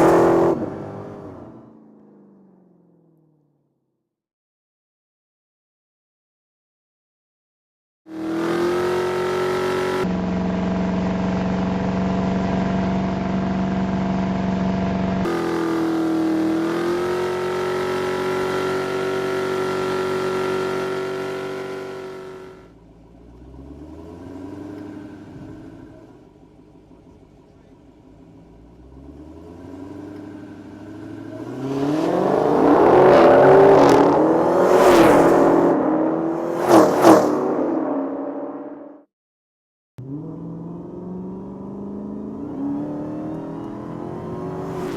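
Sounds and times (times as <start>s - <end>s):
car engine revving: 0.0s - 2.8s, 8.1s - 39.0s, 40.0s - 44.9s.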